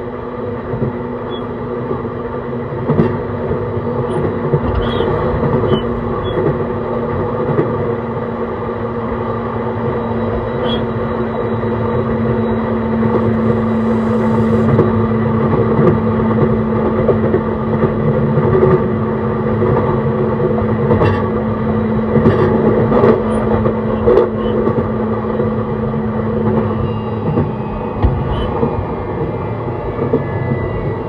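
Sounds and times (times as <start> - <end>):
train motor hum: 0.0 - 31.0
train wheels rumbling on rails: 0.0 - 31.0.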